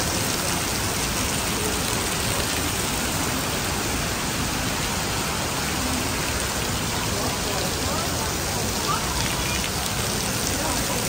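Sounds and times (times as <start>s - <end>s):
heavy rain on street: 0.0s - 11.0s.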